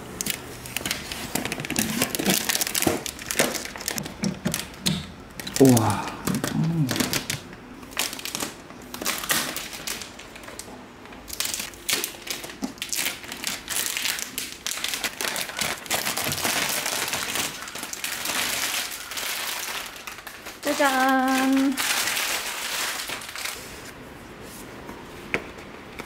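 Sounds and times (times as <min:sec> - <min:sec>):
plastic wrap crinkling: 0:00.0 - 0:24.0.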